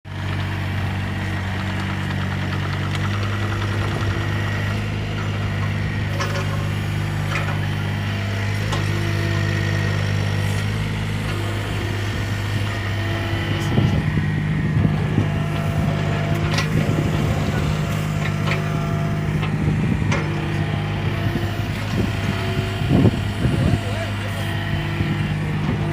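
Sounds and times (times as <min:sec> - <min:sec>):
diesel engine running: 0:00.1 - 0:25.9.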